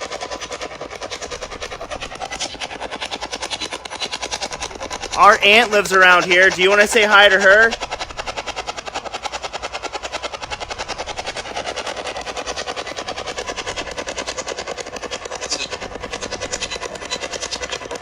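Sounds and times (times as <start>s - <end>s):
pulsing radio static: 0.0s - 18.0s.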